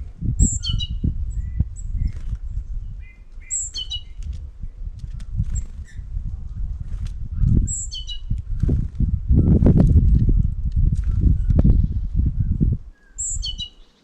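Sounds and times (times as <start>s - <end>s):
wing flutter: 0.0s - 12.4s
low rumble: 0.0s - 12.9s
high falling bird calls: 0.3s - 6.2s, 7.4s - 14.0s.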